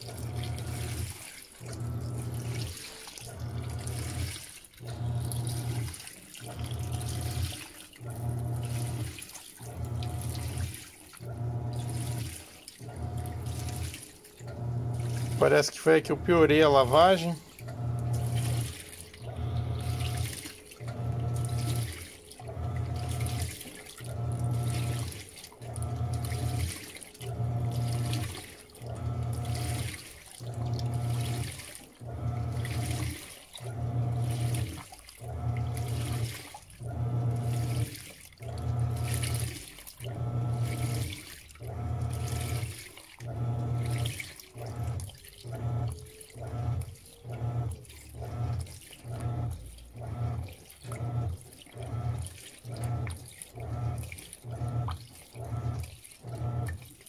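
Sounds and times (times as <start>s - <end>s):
washing machine motor humming: 0.0s - 57.0s
water and clothes sloshing: 0.0s - 57.0s.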